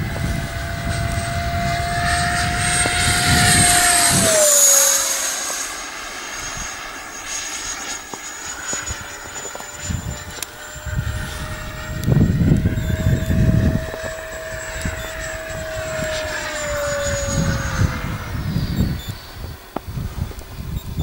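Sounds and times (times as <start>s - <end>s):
model jet high whine: 0.0s - 21.0s
wind buffeting microphone: 0.0s - 21.0s.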